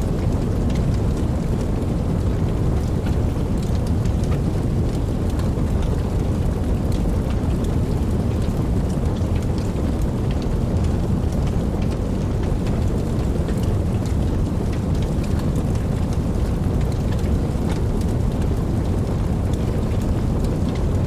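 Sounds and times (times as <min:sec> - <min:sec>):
steady rainfall: 0:00.0 - 0:21.0.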